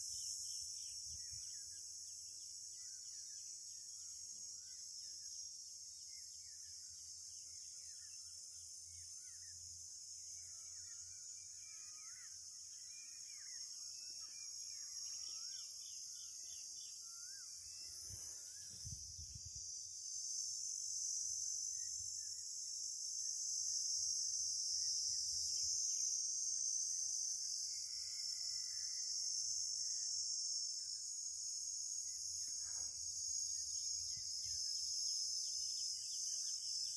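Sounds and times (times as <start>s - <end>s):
insects droning: 0.0s - 36.9s.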